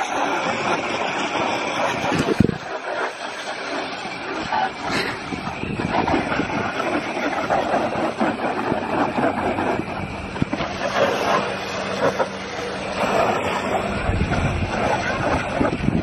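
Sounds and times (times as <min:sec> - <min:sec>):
hose spray on plastic panels: 0:00.0 - 0:16.0.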